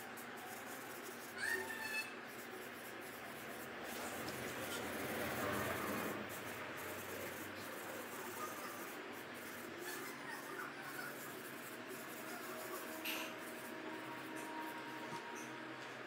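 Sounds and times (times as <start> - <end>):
fingers rubbing on paper: 0.0 - 15.6.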